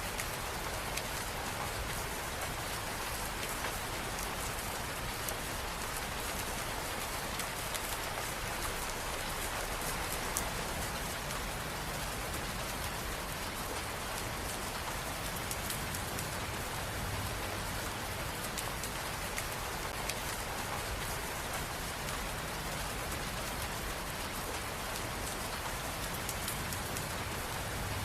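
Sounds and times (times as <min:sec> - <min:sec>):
rain on hard surfaces: 0:00.0 - 0:28.0.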